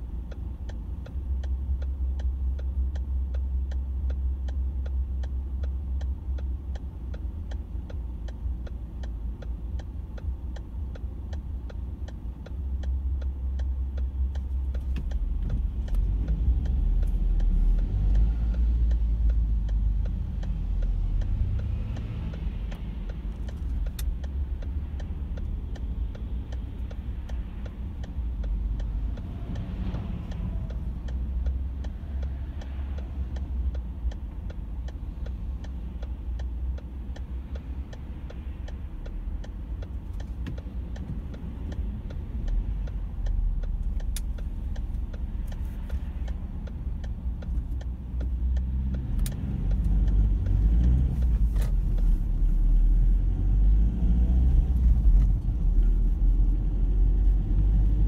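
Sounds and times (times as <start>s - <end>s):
car engine and road rumble: 0.0s - 58.0s
faint regular ticking: 0.0s - 58.0s.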